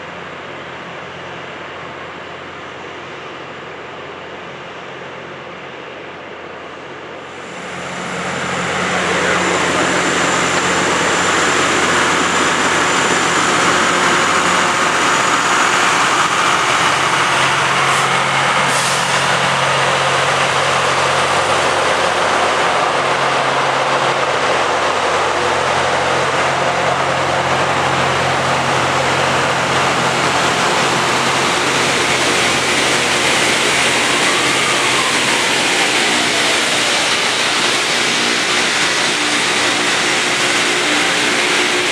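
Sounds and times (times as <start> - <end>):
diesel engines droning: 0.0 - 41.9
grinding stones hissing on rail: 7.3 - 41.9.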